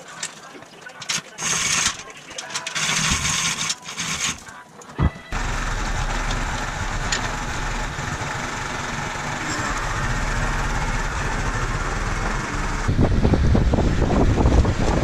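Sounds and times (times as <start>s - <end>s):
tractor diesel engine running: 1.0s - 15.0s.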